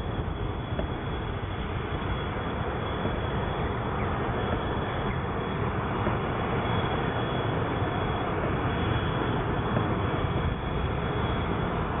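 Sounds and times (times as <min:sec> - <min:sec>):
high-pitched engine whine: 0:00.0 - 0:12.0
jet engines running: 0:00.0 - 0:12.0.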